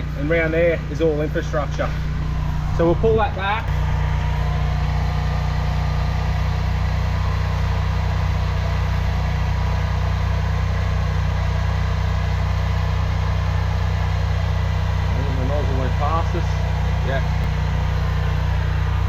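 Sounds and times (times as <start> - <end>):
drain jetter engine droning: 0.0 - 19.0.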